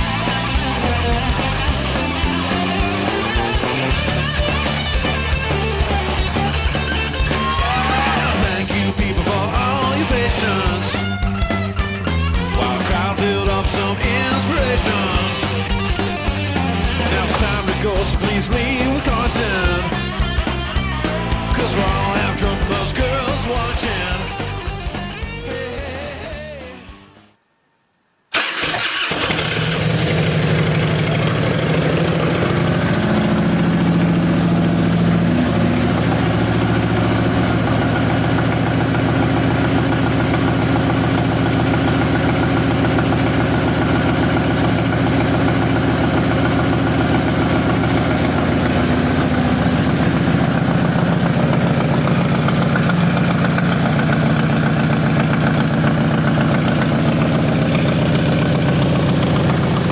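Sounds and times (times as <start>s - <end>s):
motorcycle engine idling: 0.0s - 26.9s, 29.5s - 59.9s.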